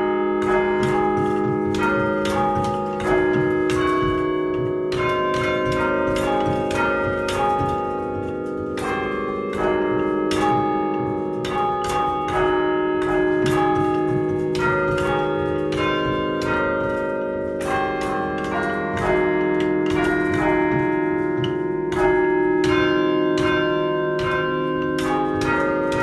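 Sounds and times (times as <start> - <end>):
church bells chiming: 0.0 - 26.0.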